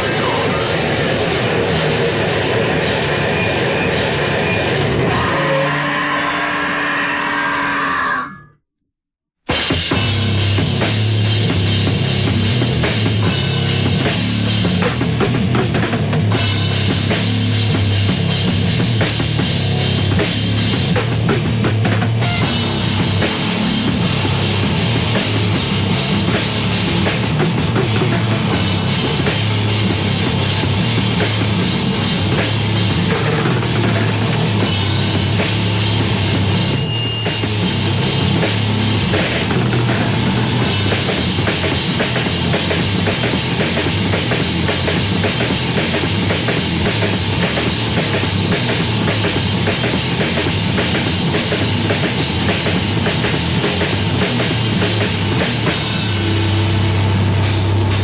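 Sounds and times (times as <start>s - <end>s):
heavy metal band playing: 0.0s - 8.4s, 9.5s - 58.0s.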